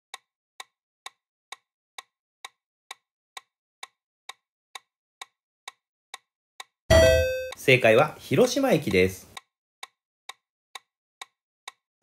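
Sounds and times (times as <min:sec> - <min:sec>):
clock-like timer ticks: 0:00.1 - 0:11.8.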